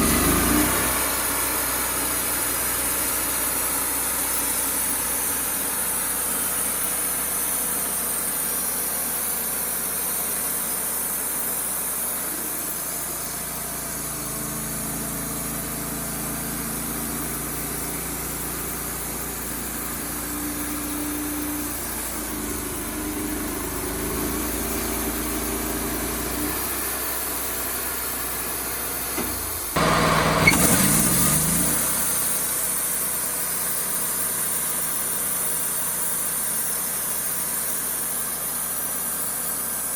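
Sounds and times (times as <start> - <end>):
sawmill engine running: 0.0 - 35.2.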